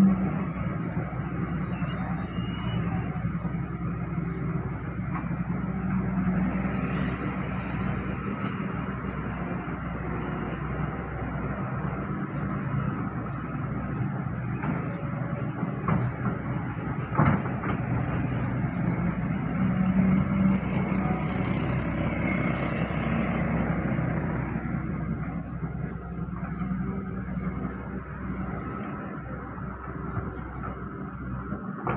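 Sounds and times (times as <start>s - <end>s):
construction machinery engine running: 0.0s - 31.9s.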